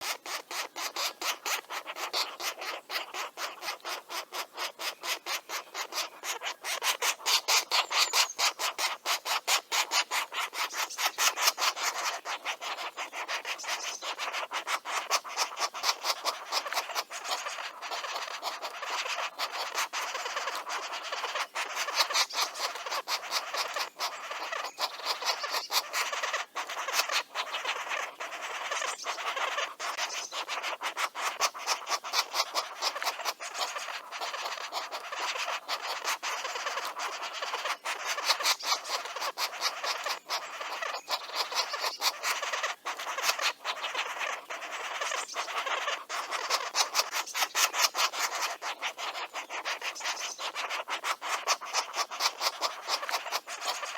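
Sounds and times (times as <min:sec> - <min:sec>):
nestlings begging calls: 0:00.0 - 0:53.9.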